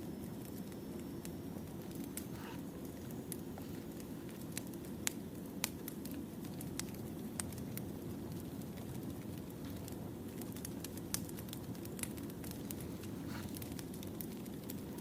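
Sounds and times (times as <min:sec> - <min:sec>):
campfire crackling and popping: 0:00.0 - 0:15.0
low rush of fire: 0:01.6 - 0:15.0.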